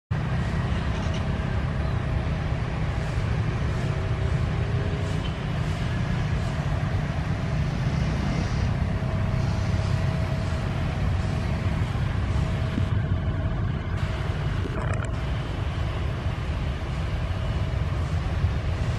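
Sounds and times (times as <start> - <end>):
low engine rumble: 0.1 - 18.9.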